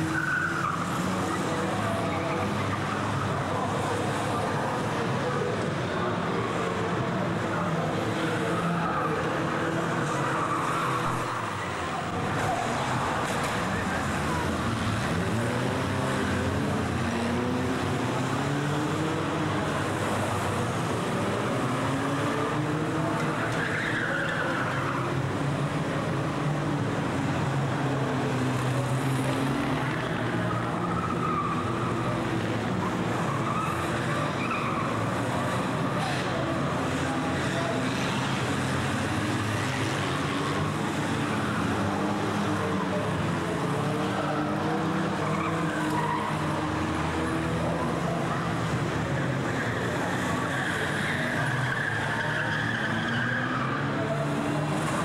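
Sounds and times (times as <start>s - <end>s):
racing car engines revving: 0.0s - 55.0s
tyres skidding: 0.0s - 55.0s.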